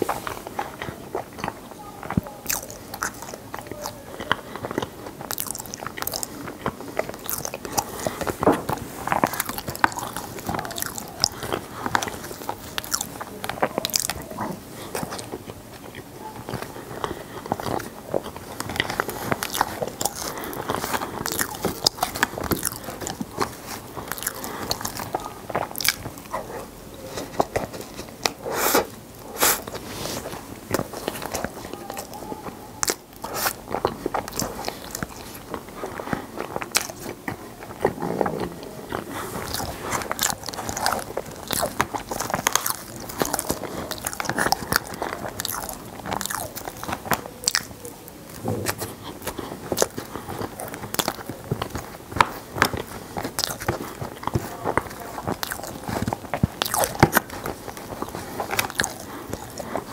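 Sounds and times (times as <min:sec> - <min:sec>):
chewing ice: 0:00.0 - 0:59.9.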